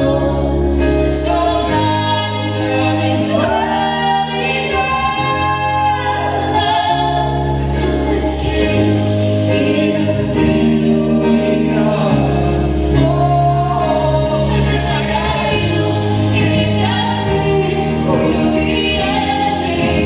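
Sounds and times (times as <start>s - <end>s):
steady bass: 0.0s - 20.0s.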